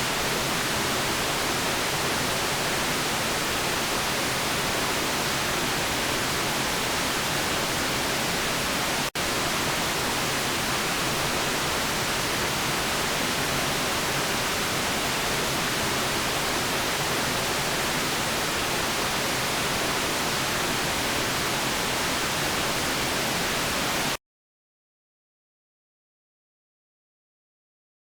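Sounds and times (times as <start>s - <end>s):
white noise hiss: 0.0s - 24.2s.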